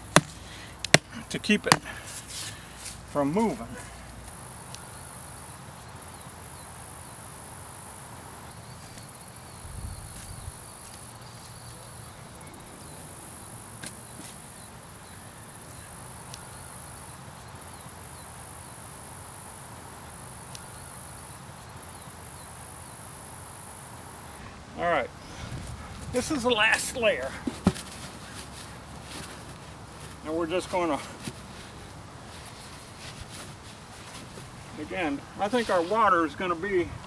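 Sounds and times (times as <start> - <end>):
insects trilling: 0.0 - 33.5.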